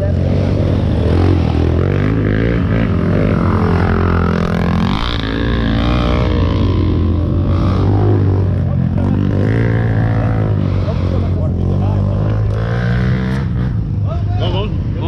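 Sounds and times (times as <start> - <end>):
off-road vehicle engine revving: 0.0 - 14.8.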